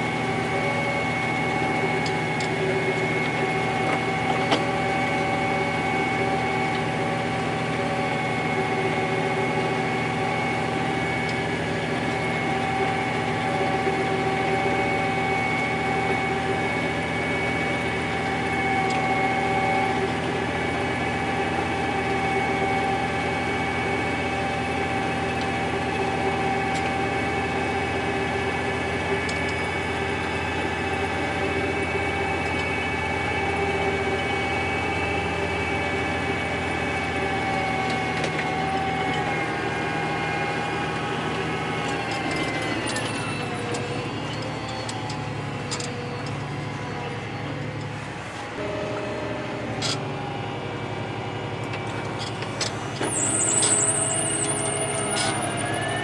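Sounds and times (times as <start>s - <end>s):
high whine: 0.0s - 56.0s
tractor engine droning under load: 0.0s - 56.0s.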